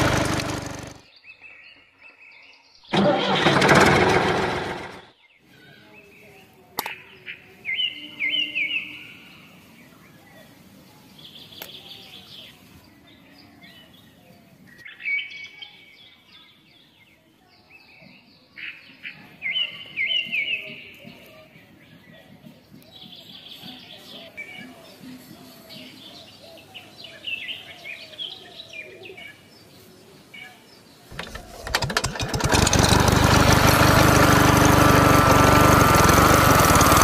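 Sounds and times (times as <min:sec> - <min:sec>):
small birds chirping: 0:05.0 - 0:37.0.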